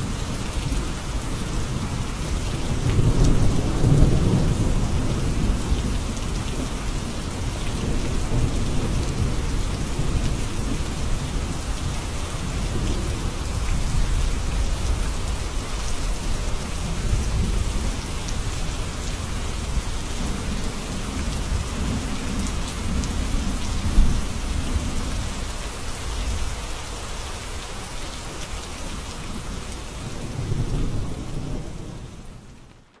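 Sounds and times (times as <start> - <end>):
thunder rumbling: 0.0 - 25.6, 28.9 - 32.7
heavy rain: 0.0 - 33.0.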